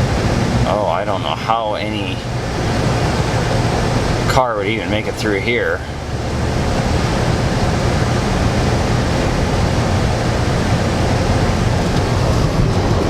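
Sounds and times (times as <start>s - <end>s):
truck driving rushing noise: 0.0s - 13.0s.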